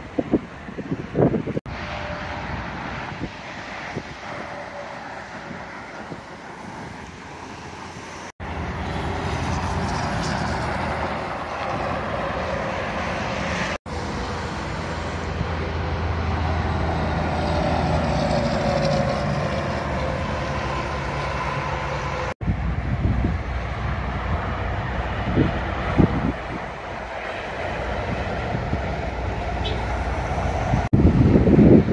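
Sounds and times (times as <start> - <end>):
trucks passing on highway: 0.0 - 31.9.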